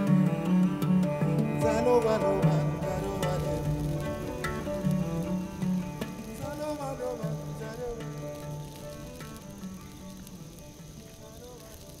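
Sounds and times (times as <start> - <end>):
fire crackling hiss: 0.0 - 12.0.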